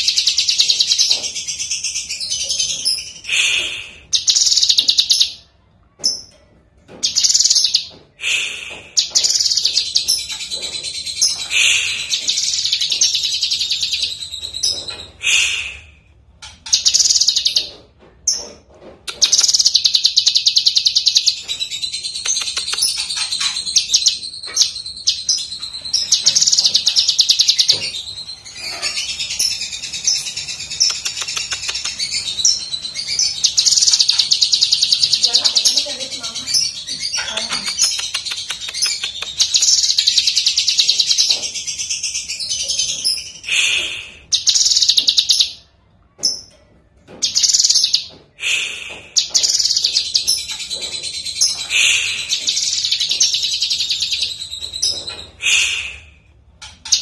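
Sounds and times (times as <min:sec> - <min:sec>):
bird singing high twittering: 0:00.0 - 0:05.4, 0:07.0 - 0:08.0, 0:08.6 - 0:15.5, 0:16.6 - 0:17.7, 0:19.1 - 0:45.7, 0:47.2 - 0:48.2, 0:49.1 - 0:56.0.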